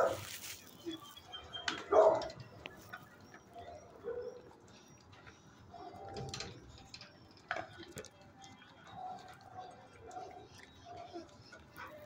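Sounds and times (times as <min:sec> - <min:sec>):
dogs whining faintly: 0:00.0 - 0:07.0, 0:08.8 - 0:12.0.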